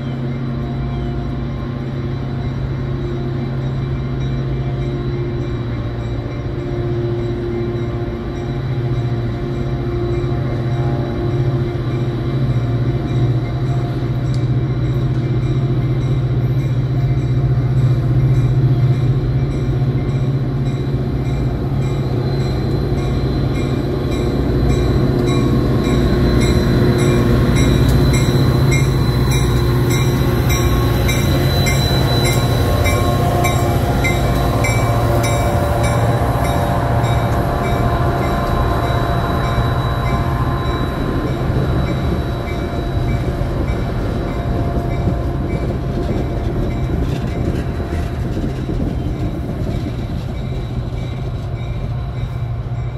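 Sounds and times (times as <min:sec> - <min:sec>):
train engine and wheels drone: 0:00.0 - 0:52.9.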